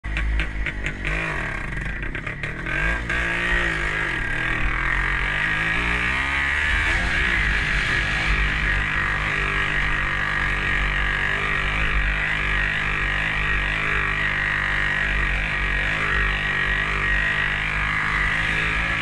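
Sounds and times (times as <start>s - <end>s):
motorcycle engine revving under load: 0.0s - 19.0s.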